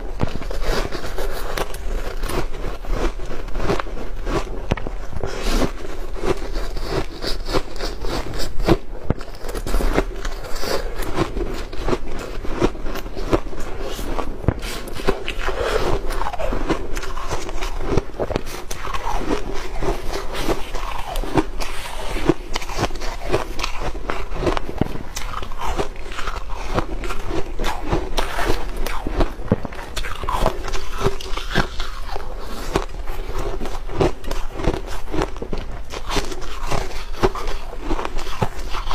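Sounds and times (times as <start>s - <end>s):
ice being crunched and chewed: 0.0s - 38.9s.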